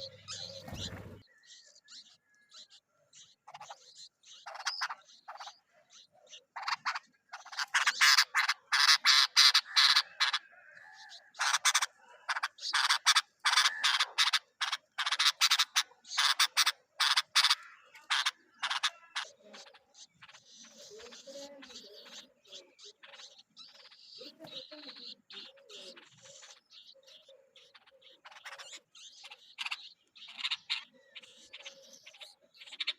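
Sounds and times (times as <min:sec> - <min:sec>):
bird chicks calling: 0:00.0 - 0:32.9.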